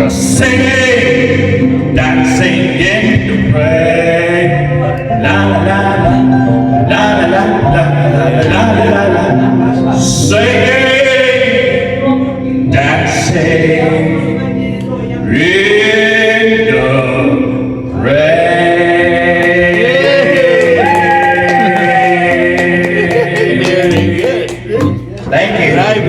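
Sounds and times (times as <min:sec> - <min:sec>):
backing music: 0:00.0 - 0:26.0
person singing: 0:00.0 - 0:26.0.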